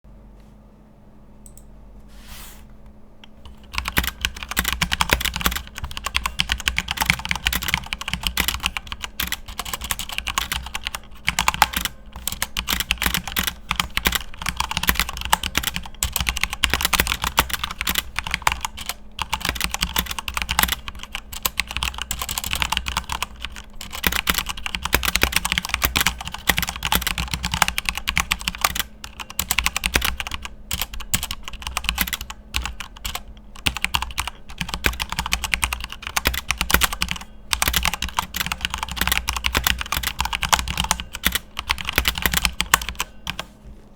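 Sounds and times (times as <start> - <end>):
fast typing on mechanical keyboard: 3.4 - 43.5.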